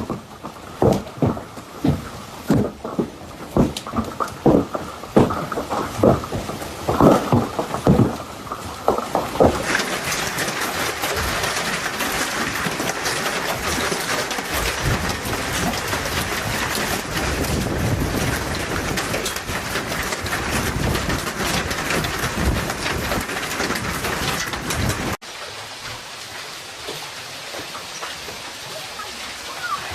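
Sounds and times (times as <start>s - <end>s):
hail clattering on surfaces: 0.0s - 29.9s.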